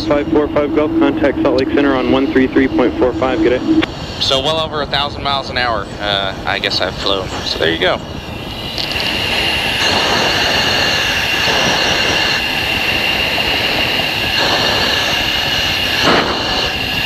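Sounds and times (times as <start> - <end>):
high steady whine: 0.0 - 17.0
jet engine and air rush: 0.0 - 17.0.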